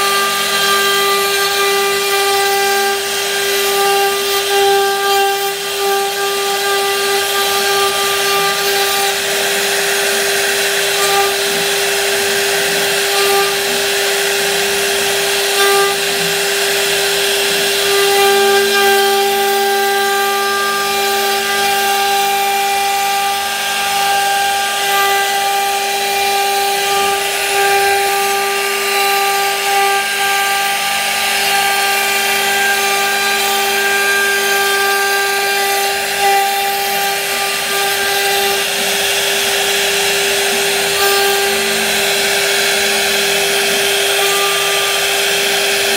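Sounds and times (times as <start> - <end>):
bit cutting through wood: 0.0 - 45.9
router spindle whine: 0.0 - 45.9.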